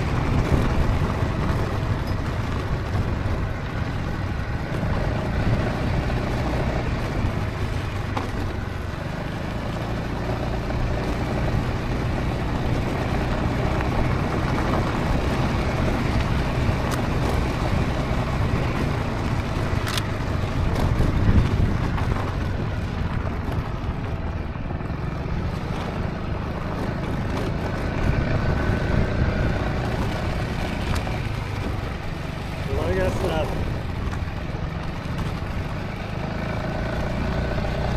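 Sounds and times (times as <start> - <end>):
scooter engine running: 0.0 - 37.9
wind and road noise: 0.0 - 37.9.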